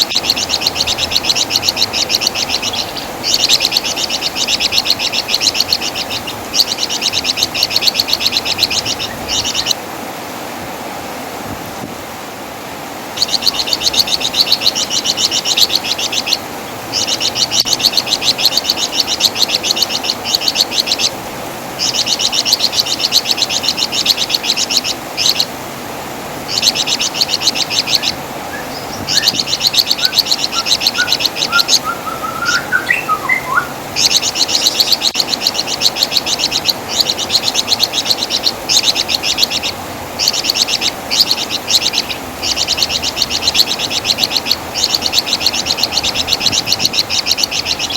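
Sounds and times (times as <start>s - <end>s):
soft low bird chirps: 0.0s - 9.8s, 13.2s - 21.1s, 26.5s - 47.9s
songbird chattering trills: 0.0s - 9.8s, 13.2s - 21.2s, 21.8s - 25.5s, 26.5s - 47.9s.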